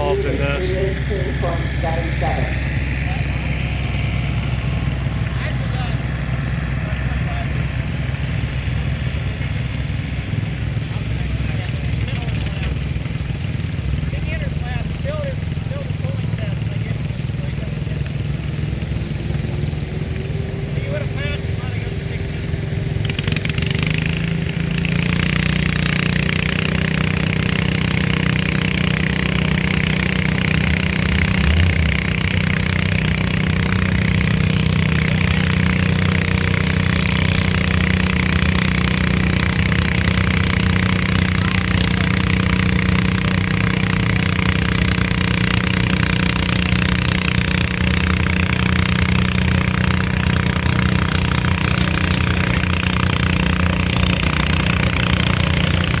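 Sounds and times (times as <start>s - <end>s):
small engine running loudly: 0.0s - 56.0s.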